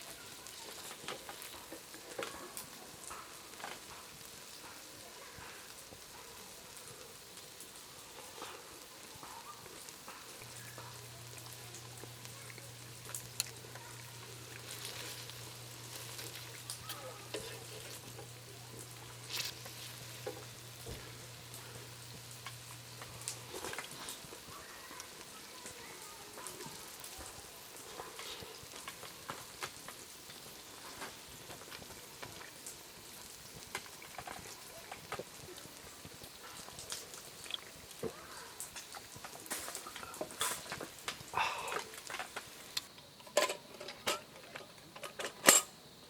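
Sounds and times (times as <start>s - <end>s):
campfire sizzling and crackling: 0.0s - 46.0s.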